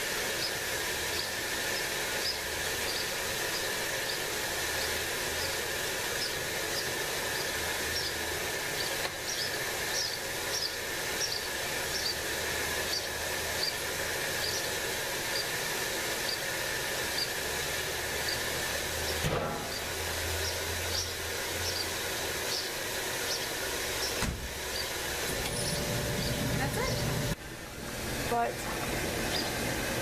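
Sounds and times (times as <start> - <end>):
birds chirping: 0.3 - 27.4, 28.3 - 30.0.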